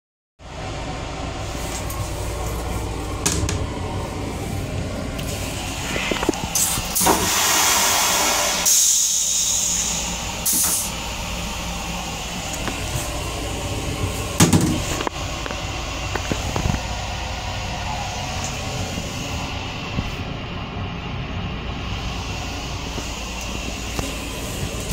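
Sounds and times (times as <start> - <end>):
moving railcar rumble: 0.4 - 24.9
train toilet flushing: 0.6 - 24.9.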